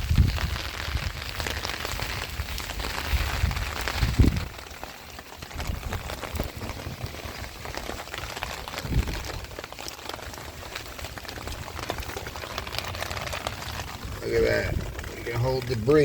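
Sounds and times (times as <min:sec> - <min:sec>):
rain pattering: 0:00.0 - 0:16.0
water splashing into a drain: 0:00.0 - 0:16.0.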